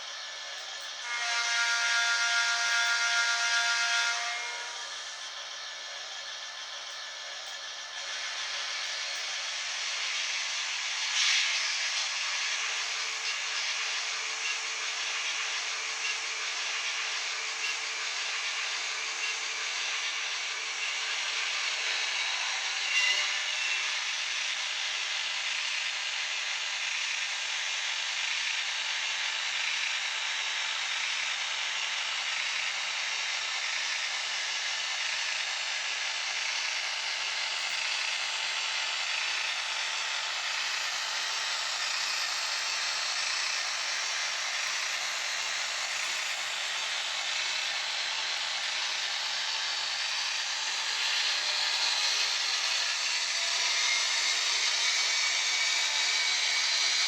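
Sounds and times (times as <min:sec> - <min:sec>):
model locomotive running on track: 0:00.0 - 0:57.0.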